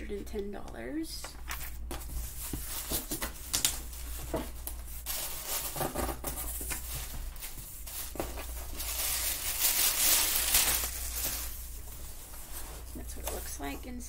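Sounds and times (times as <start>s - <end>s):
packing paper crinkling: 1.3s - 13.6s.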